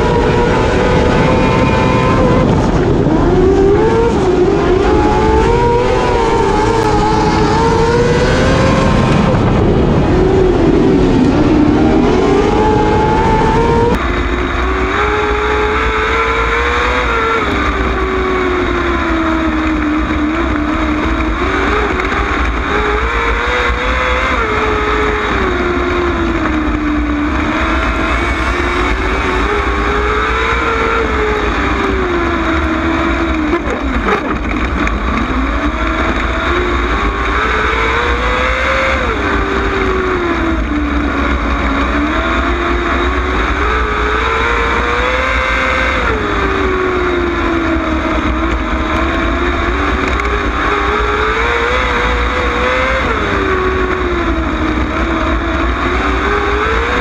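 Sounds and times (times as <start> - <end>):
race car engine revving: 0.0 - 57.0
wind and tyre noise: 0.0 - 57.0.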